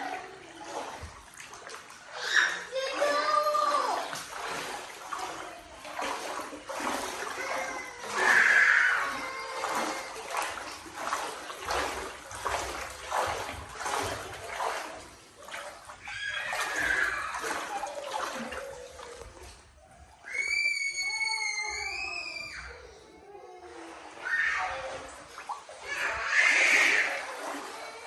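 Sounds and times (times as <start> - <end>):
wading through floodwater: 0.0 - 28.0.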